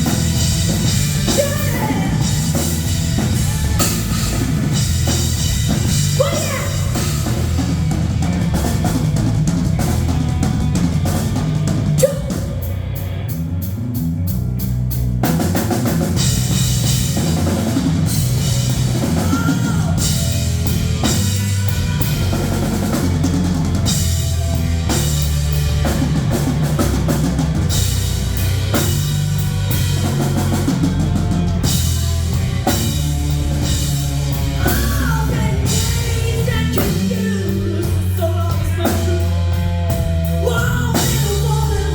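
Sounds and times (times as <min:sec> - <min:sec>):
drum kit: 0:00.0 - 0:41.9
heavy bass: 0:00.0 - 0:41.9
live rock band playing: 0:00.0 - 0:41.9.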